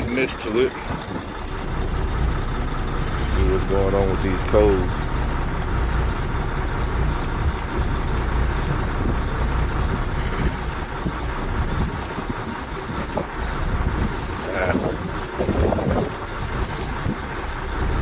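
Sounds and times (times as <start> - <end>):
diesel engine idling roughly: 0.0 - 18.0
wind on microphone: 3.3 - 18.0.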